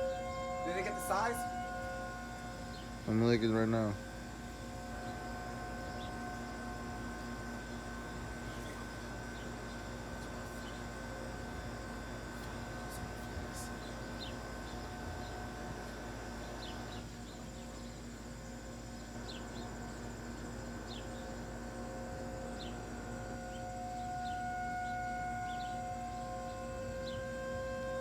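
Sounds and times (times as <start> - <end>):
distant tornado warning sirens: 0.0 - 28.0.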